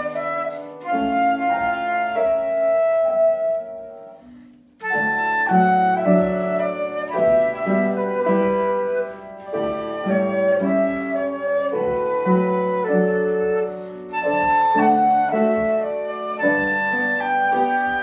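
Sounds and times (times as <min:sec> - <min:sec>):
flute playing slow melody: 0:00.0 - 0:18.0.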